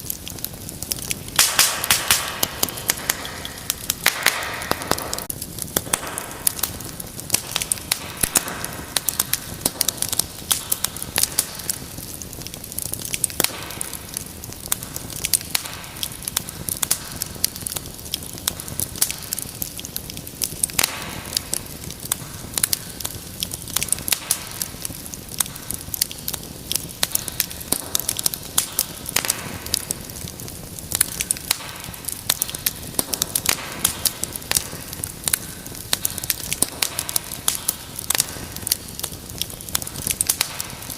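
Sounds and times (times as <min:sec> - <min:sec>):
low sound of flames: 0:00.0 - 0:40.9
wood fire crackling and popping: 0:00.0 - 0:40.9.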